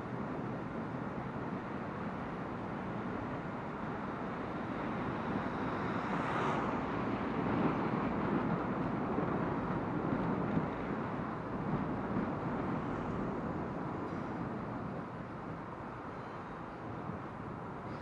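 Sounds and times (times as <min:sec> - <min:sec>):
traffic and road noise: 0:00.0 - 0:18.0.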